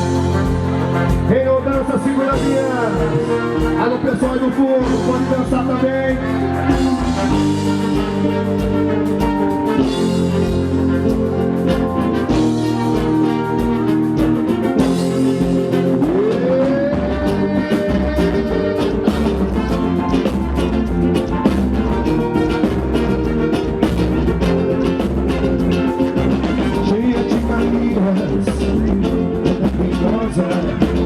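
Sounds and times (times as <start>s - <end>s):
live band playing upbeat music: 0.0s - 31.0s
steady drum beat: 0.0s - 31.0s.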